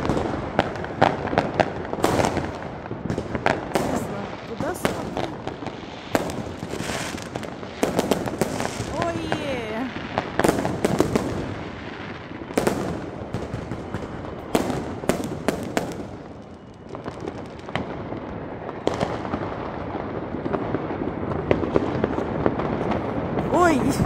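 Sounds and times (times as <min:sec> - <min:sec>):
fireworks crackling and banging: 0:00.0 - 0:24.0
loud sharp firework cracks: 0:00.0 - 0:24.0.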